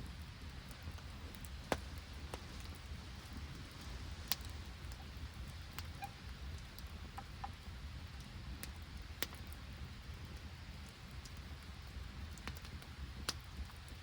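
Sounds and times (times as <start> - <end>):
campfire crackling: 0.0 - 14.0
rain pattering: 0.0 - 14.0.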